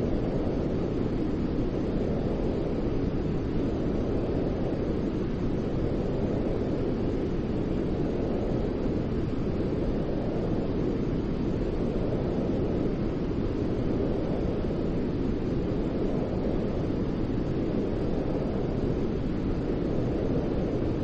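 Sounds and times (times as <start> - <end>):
deep white noise: 0.0 - 21.0.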